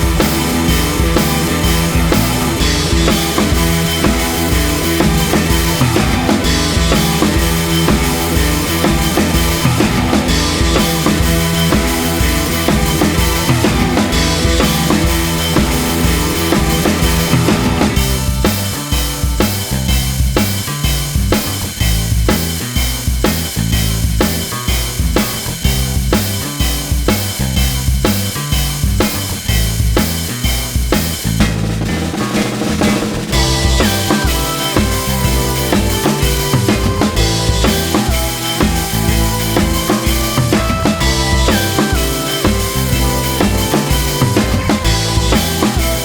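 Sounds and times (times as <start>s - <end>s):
drum-driven music track: 0.0s - 46.0s.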